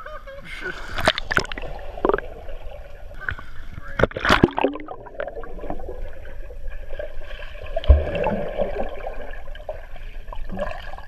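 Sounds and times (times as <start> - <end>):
underwater bubbling and churning: 0.0 - 11.0.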